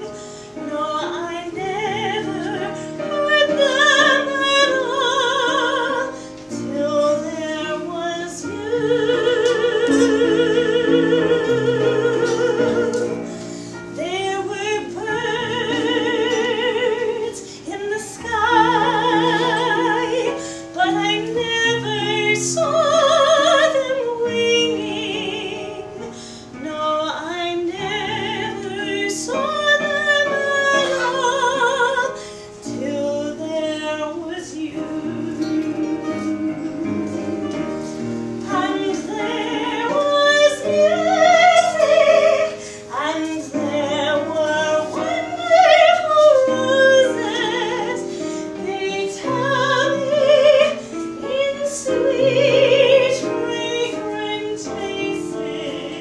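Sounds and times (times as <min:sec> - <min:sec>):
keyboard accompaniment: 0:00.0 - 0:56.0
woman singing with vibrato: 0:00.0 - 0:56.0.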